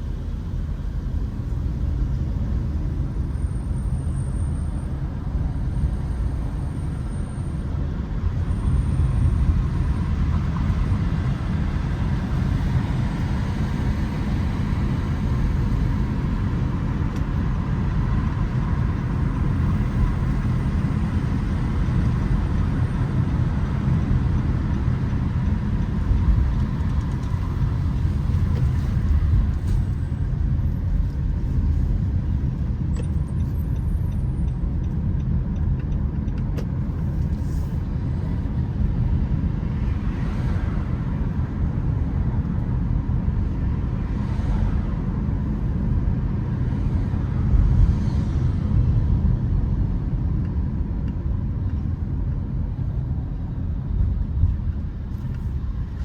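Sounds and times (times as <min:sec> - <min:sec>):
low rumble of road traffic: 0:00.0 - 0:56.0
vehicles passing: 0:00.0 - 0:56.0.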